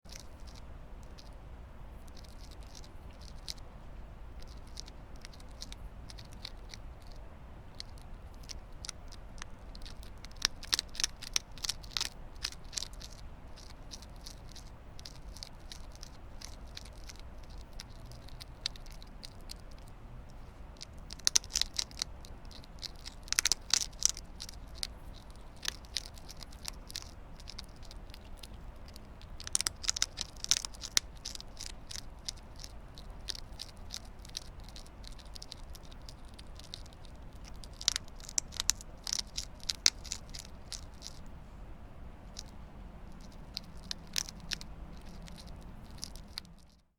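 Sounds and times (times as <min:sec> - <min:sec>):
hedgehog chewing crunchy clicks: 0:00.0 - 0:41.4, 0:42.1 - 0:46.9
low steady hum: 0:00.0 - 0:46.9.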